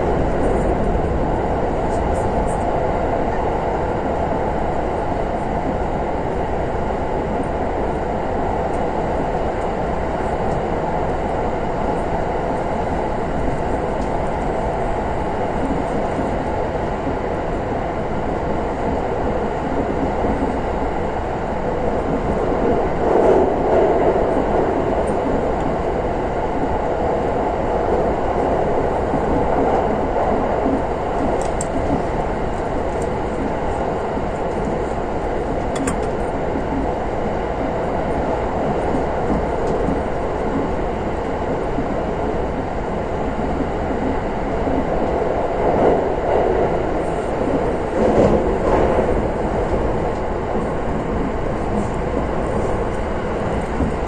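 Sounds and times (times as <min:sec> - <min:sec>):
train rumbling inside carriage: 0:00.0 - 0:54.0.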